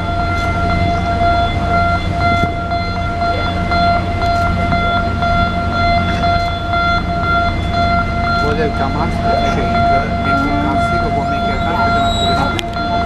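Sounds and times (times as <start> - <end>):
low rumble: 0.0 - 13.0
steady machine whine: 0.0 - 13.0.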